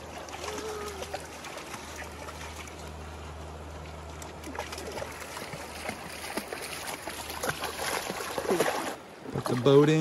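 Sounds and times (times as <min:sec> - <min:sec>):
water trickling over rocks: 0:00.0 - 0:10.0.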